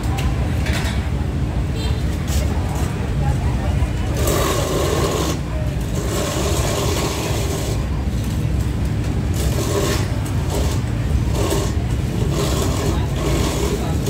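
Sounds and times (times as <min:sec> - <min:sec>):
busy street traffic: 0:00.0 - 0:14.0.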